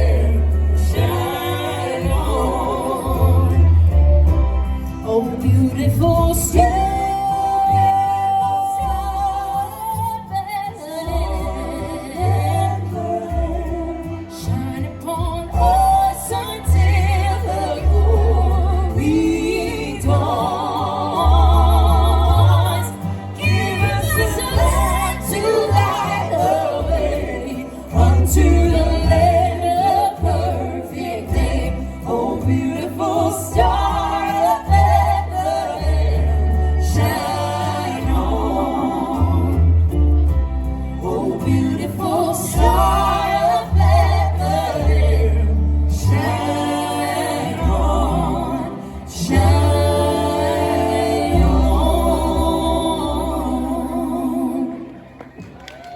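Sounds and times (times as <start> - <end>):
group singing gospel song: 0.0 - 55.2
low bass notes: 0.0 - 55.3.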